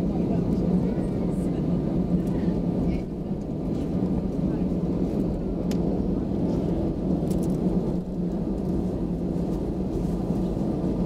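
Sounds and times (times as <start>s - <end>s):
jet engines idling hum: 0.0s - 11.0s.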